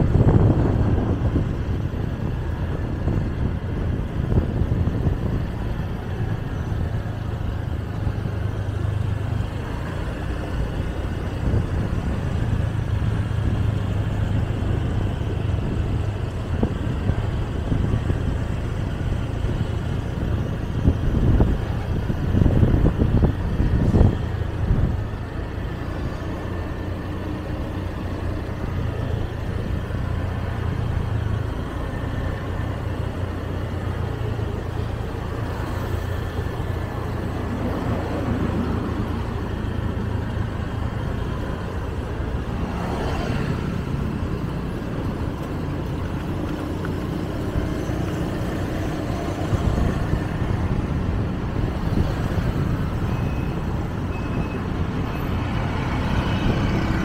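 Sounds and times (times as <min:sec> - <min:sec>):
traffic noise: 0:00.0 - 0:57.0
vehicle engine and tyre rumble: 0:00.0 - 0:57.0.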